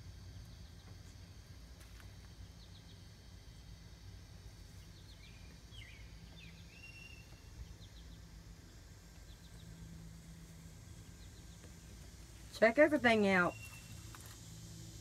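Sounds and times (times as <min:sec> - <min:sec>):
faint birdsong: 0:00.0 - 0:14.6
low hum: 0:00.0 - 0:15.0.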